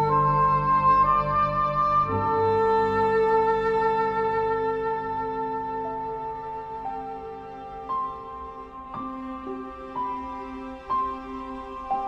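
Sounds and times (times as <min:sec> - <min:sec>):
slow gentle background music: 0:00.0 - 0:12.0.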